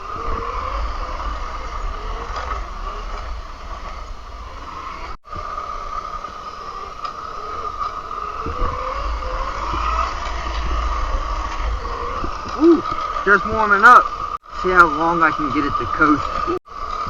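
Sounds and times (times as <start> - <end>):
electric motor whine: 0.0 - 17.0
wind and tyre rumble: 0.0 - 17.0.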